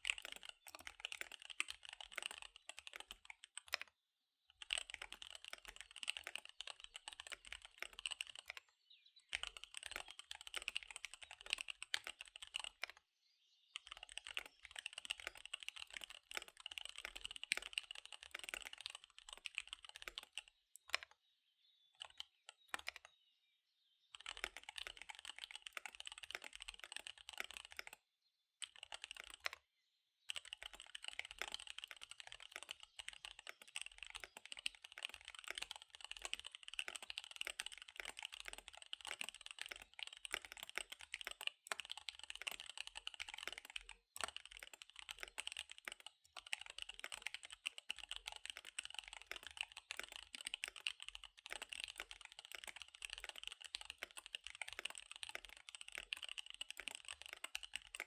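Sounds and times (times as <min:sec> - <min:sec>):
fast typing on mechanical keyboard: 0:00.0 - 0:03.9, 0:04.5 - 0:13.0, 0:13.8 - 0:21.1, 0:22.0 - 0:23.1, 0:24.1 - 0:28.0, 0:28.6 - 0:29.6, 0:30.3 - 0:58.0.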